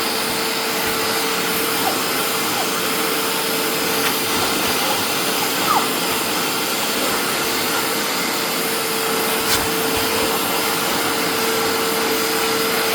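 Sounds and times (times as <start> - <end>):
carpet cleaner suction motor: 0.0 - 12.9.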